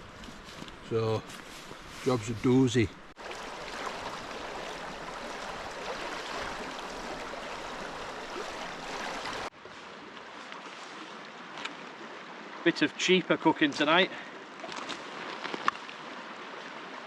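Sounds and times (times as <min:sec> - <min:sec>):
stream rushing: 0:02.5 - 0:17.0.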